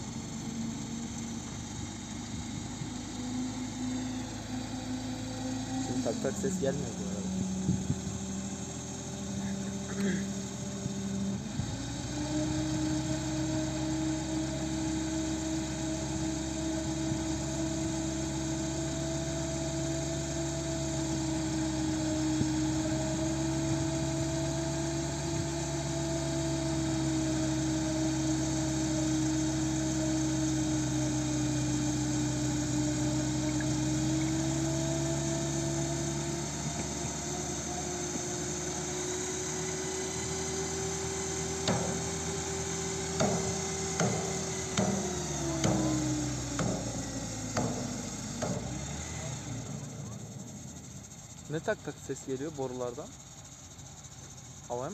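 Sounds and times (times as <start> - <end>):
engine driving rotor: 0.0 - 54.9.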